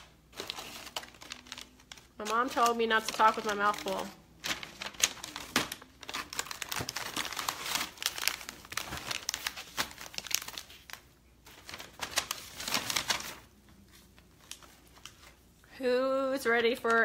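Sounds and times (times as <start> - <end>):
wrapper crinkling: 0.0 - 15.4.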